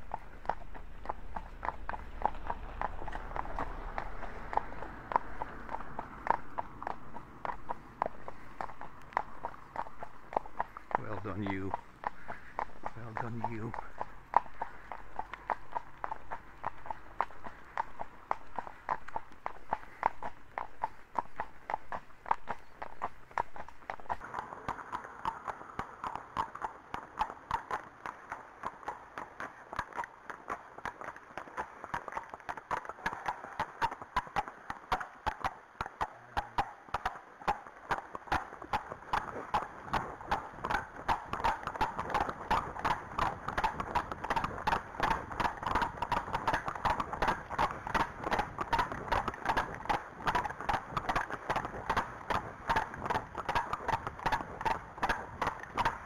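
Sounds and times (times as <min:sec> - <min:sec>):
horse hooves clip-clopping on tarmac: 0:00.0 - 0:56.0.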